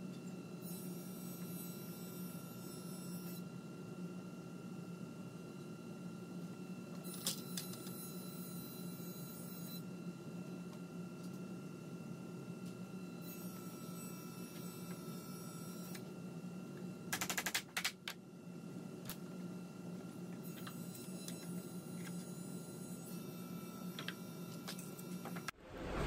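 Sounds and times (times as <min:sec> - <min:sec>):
steady low hum: 0:03.4 - 0:26.0.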